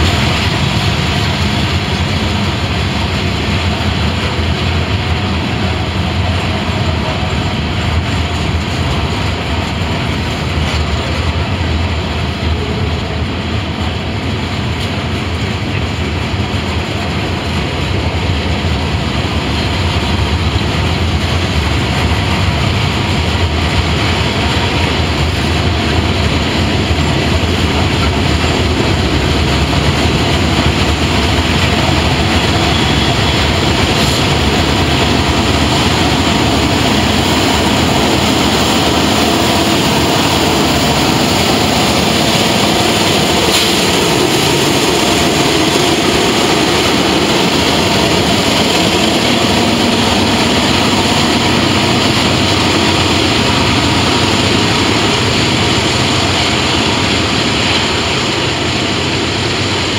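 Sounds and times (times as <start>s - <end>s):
diesel locomotive engines: 0.0s - 59.9s
freight train wheels rumbling on rail: 0.0s - 59.9s.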